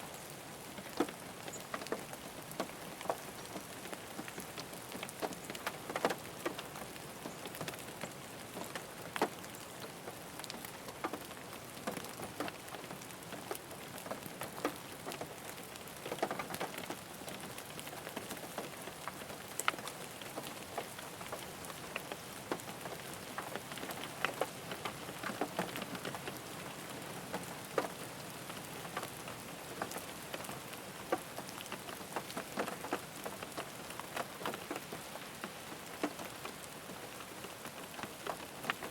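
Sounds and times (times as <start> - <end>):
rain falling on a car: 0.0 - 38.9
raindrops tapping on roof and glass: 0.6 - 38.9.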